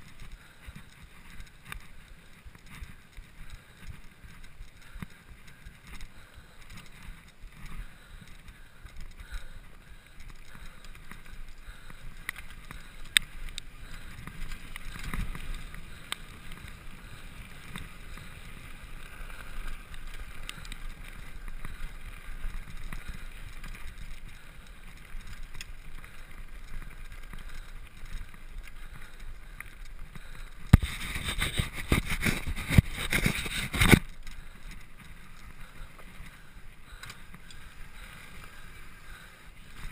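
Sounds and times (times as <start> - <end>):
bike chain and frame rattling: 0.0 - 39.9
bike tyres crunching on gravel: 0.0 - 39.9.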